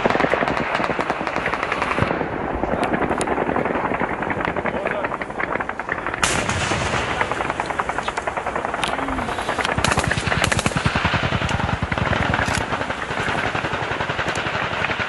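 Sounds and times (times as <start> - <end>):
rapid automatic gunfire: 0.0 - 15.0.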